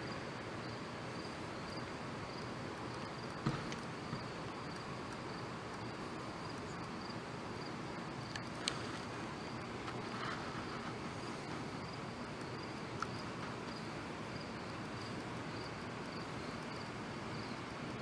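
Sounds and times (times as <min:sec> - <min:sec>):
crickets chirping: 0:00.0 - 0:18.0
low hiss of night air: 0:00.0 - 0:18.0.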